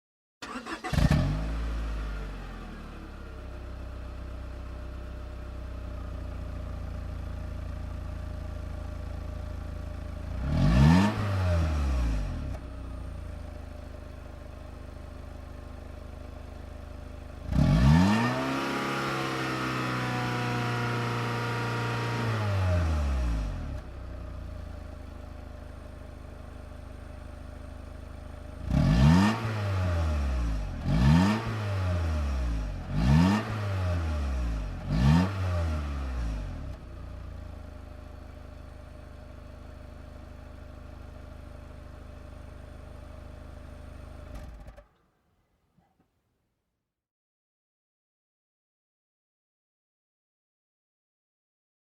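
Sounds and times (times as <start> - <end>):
car engine revving and idling: 0.4 - 44.8.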